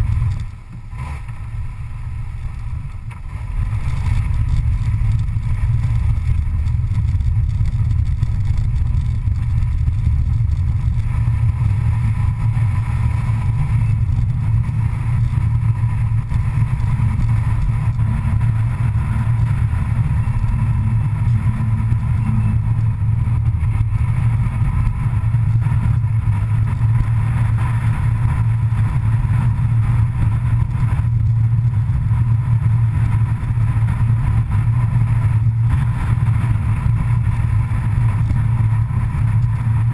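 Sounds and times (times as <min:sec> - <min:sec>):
vehicle driving at speed: 0:00.0 - 0:39.9.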